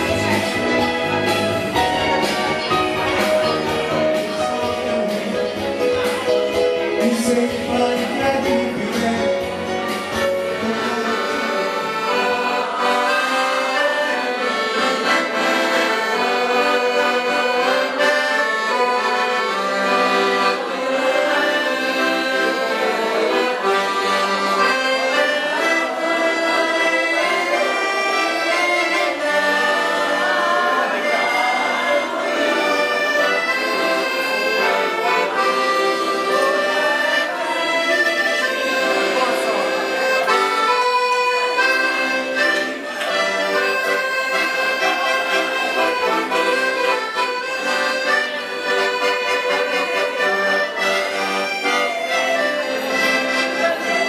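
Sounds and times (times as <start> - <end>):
piano accordion playing: 0.0 - 54.0.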